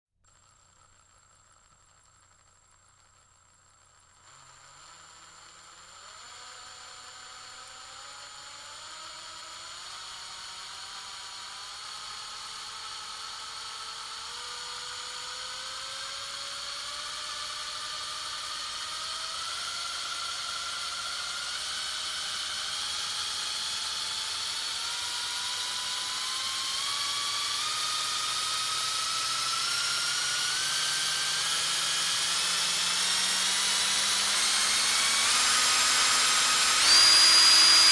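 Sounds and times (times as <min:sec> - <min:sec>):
electric drill motor whining: 0:04.2 - 0:37.9.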